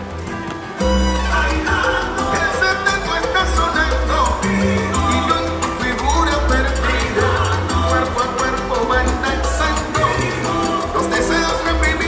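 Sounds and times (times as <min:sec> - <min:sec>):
salsa music: 0:00.0 - 0:12.0.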